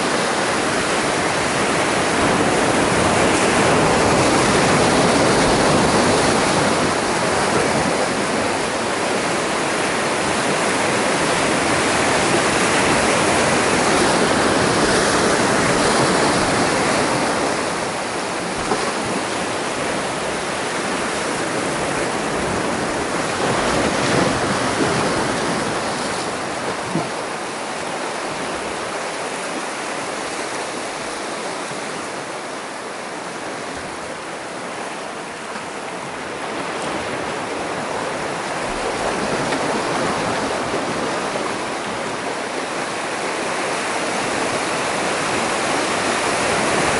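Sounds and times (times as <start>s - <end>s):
surf breaking over rocks: 0.0s - 46.9s.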